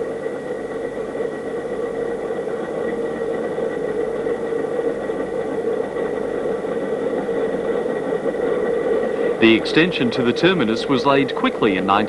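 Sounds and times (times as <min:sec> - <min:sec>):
mechanical hum and whir: 0:00.0 - 0:12.0.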